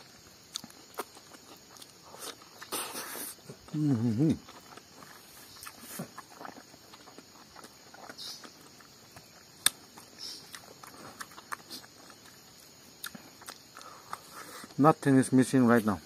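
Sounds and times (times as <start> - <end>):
person chewing and smacking: 0.0 - 14.8.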